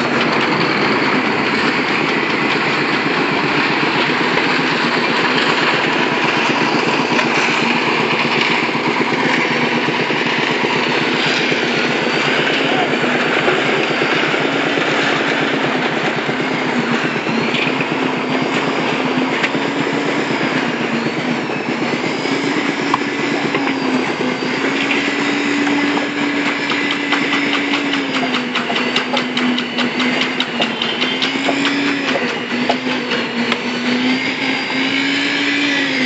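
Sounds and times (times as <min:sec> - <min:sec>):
machine engine running under load: 0:00.0 - 0:36.0.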